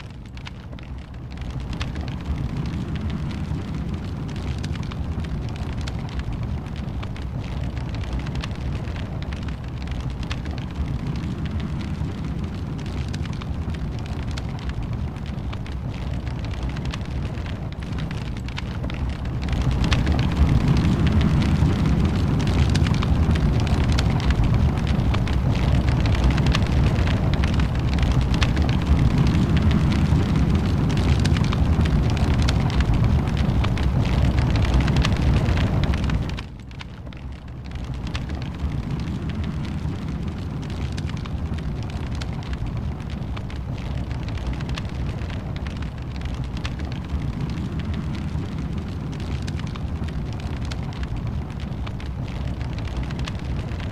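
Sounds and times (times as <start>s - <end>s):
fire crackling and popping: 0.0s - 53.9s
low rumble: 0.0s - 53.9s.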